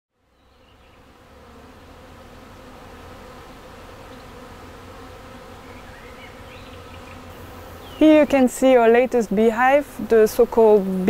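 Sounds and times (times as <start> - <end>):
honeybees buzzing: 0.2 - 11.0.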